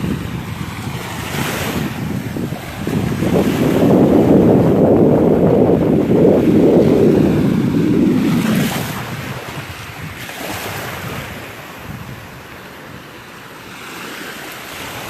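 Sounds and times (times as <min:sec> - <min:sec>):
wind buffeting microphone: 0:00.0 - 0:13.2
small waves breaking: 0:00.0 - 0:15.0
surf washing ashore: 0:00.0 - 0:15.0.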